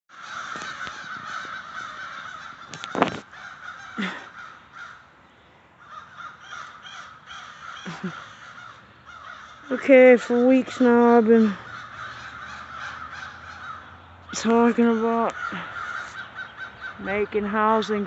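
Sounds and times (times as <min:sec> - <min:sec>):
crows cawing: 0:00.1 - 0:18.0.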